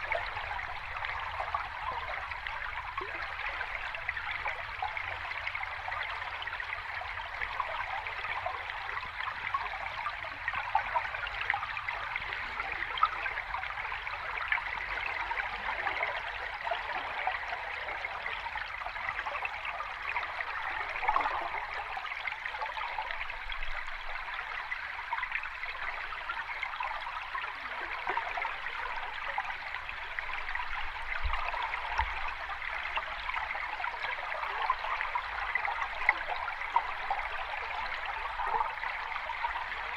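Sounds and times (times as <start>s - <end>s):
rushing trickling water: 0.0s - 39.9s.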